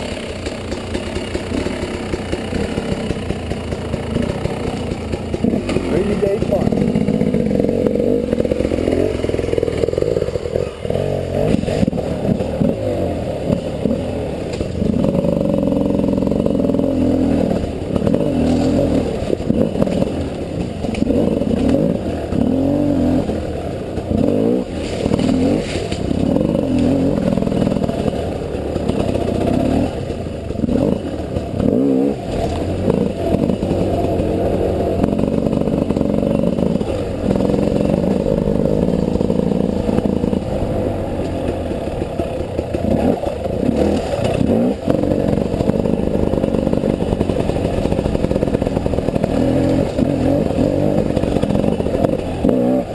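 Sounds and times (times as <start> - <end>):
motorcycle clatter and knocks: 0.0 - 52.9
motorcycle engine revving: 0.0 - 52.9.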